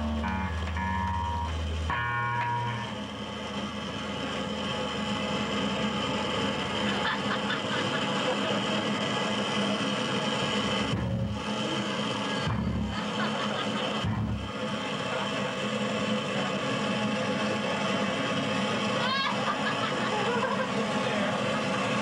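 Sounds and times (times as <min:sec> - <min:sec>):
amplifier hum and hiss: 0:00.0 - 0:22.0
electric bass low notes: 0:00.0 - 0:22.0.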